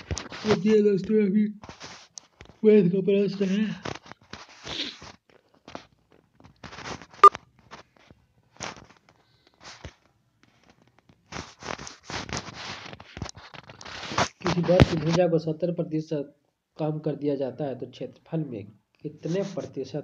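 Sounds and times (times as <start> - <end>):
faint rustling and scraping: 0.0 - 15.3, 19.1 - 20.0.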